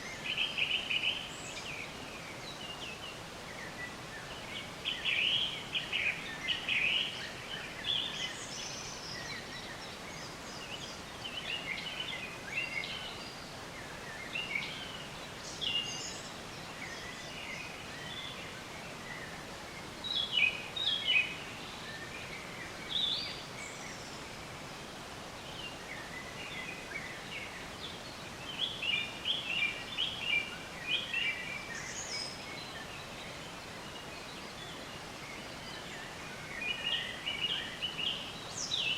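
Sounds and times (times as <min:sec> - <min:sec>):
songbirds chirping and singing: 0:00.0 - 0:38.9
steady background hiss: 0:00.0 - 0:38.9.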